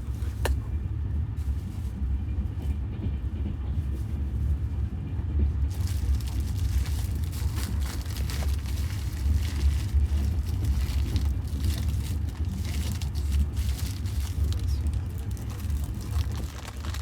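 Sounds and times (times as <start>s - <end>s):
train low rumble inside carriage: 0.0s - 17.0s.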